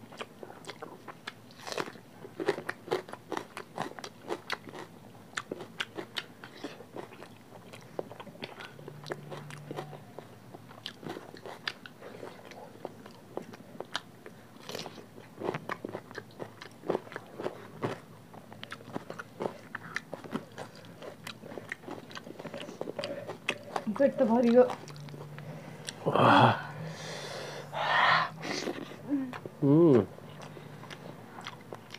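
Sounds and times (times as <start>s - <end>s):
wet chewing and smacking: 0.0s - 26.0s, 28.5s - 31.9s.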